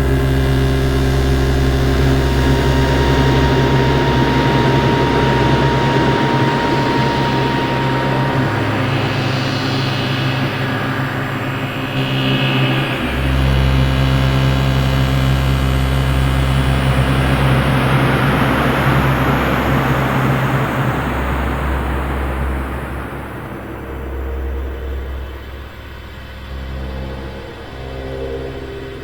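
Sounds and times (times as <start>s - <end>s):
dark ambient synth drone: 0.0s - 29.0s
deep bass drone: 0.0s - 29.0s.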